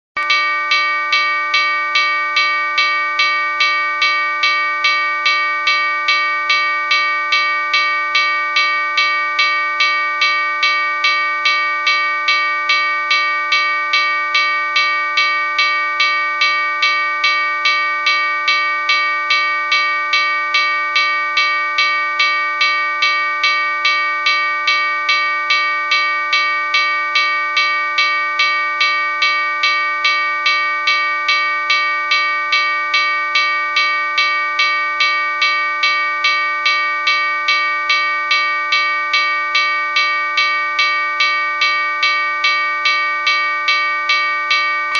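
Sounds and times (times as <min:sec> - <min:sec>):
railroad crossing bell ringing: 0:00.2 - 0:44.9.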